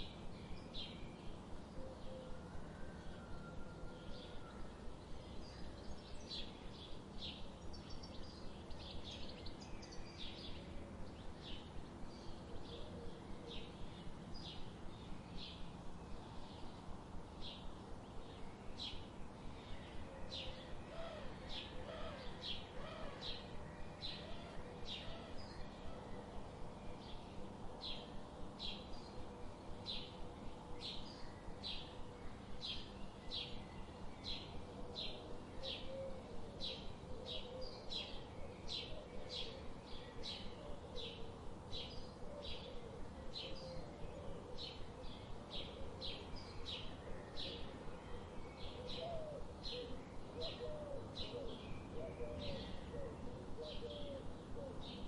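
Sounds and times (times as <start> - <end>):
faint low background noise: 0.0 - 55.0
songbirds chirping: 0.0 - 55.0.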